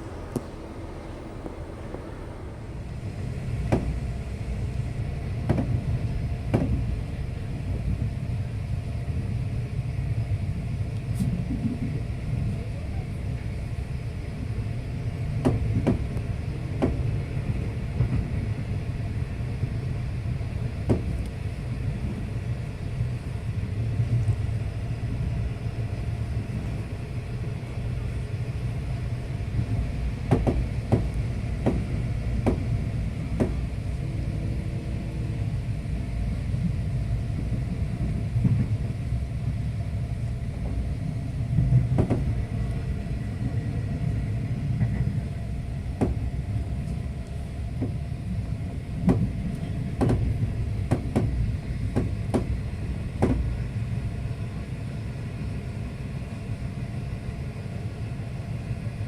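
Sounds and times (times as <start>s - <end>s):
train carriage rumbling: 0.0s - 59.0s.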